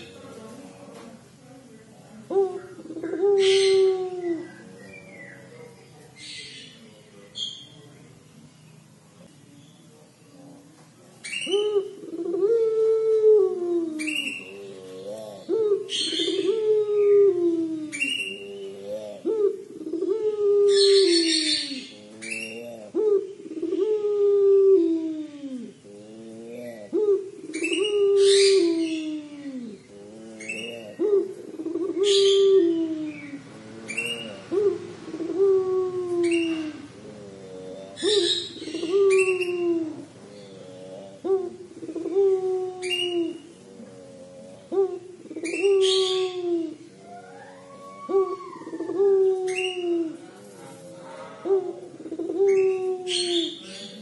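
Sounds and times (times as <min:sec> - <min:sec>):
dove cooing: 0:00.0 - 0:01.1, 0:02.2 - 0:07.8, 0:11.2 - 0:54.0.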